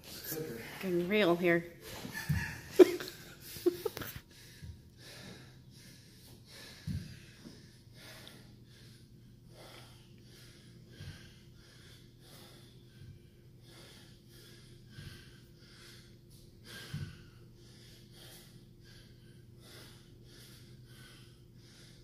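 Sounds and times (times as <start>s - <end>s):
man breathing hard: 1.8s - 22.0s.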